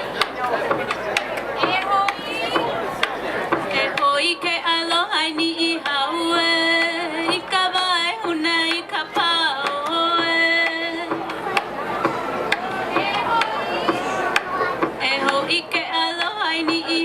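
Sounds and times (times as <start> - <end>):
person singing hula song: 1.6 - 17.0.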